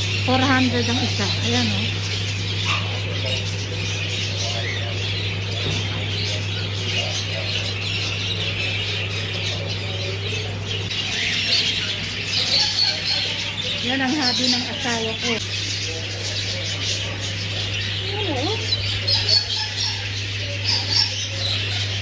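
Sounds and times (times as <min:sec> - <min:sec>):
birds chirping and squawking: 0:00.0 - 0:22.0
steady low hum: 0:00.0 - 0:22.0.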